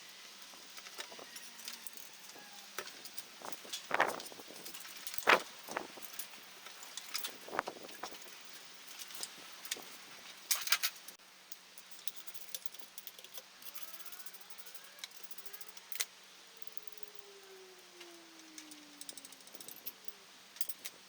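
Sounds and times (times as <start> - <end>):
metallic clinks and rattles: 0.4 - 17.2, 18.3 - 21.0.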